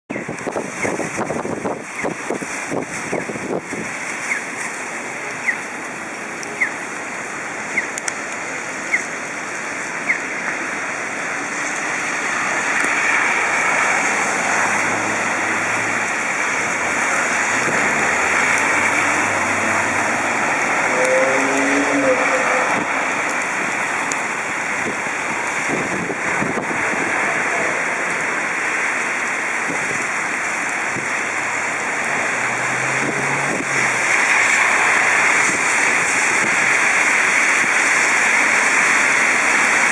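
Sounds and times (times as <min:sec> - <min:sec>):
steady rain: 0:00.1 - 0:39.9
car tyres hissing through water: 0:00.2 - 0:39.9.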